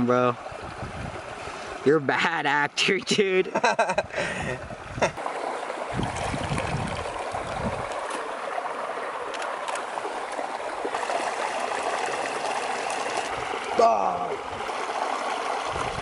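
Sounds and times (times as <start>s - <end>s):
creek water flowing over rocks: 0.0s - 3.4s, 4.6s - 16.0s.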